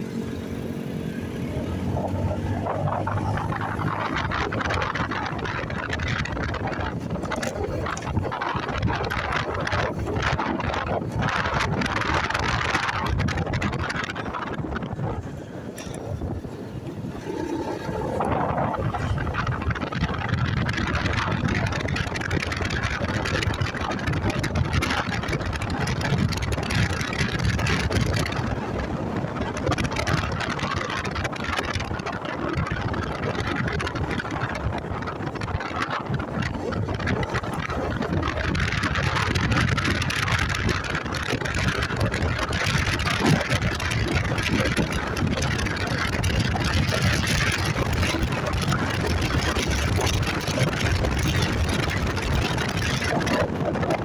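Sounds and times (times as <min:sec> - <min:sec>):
motorcycle running: 0:00.0 - 0:54.0
wind rushing over microphone: 0:00.0 - 0:54.0.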